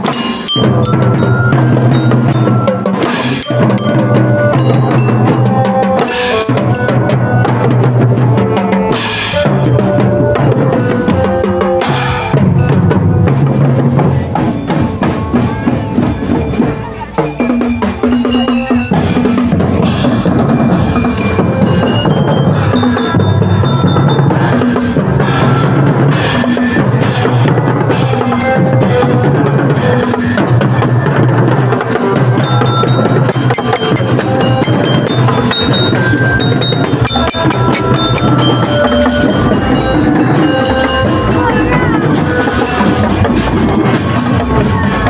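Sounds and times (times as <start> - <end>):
mallet percussion melody: 0.0 - 45.0
marching drums: 0.0 - 45.0.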